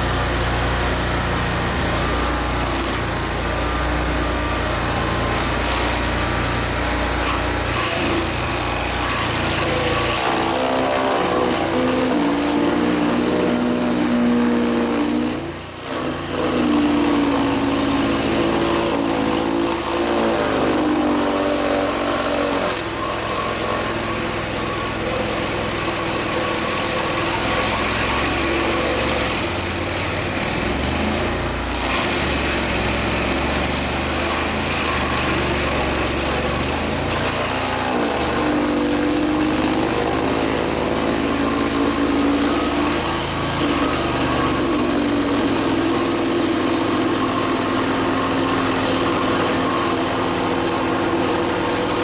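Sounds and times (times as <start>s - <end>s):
engine running under load: 0.0s - 52.0s.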